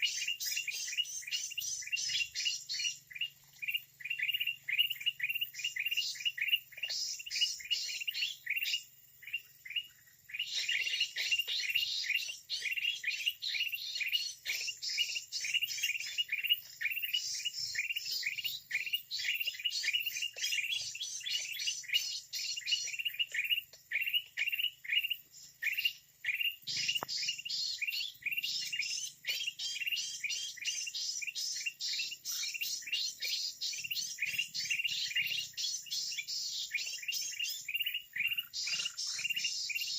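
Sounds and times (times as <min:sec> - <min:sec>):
birds chirping: 0:00.0 - 0:39.9
chorus of higher chirps: 0:00.0 - 0:39.9.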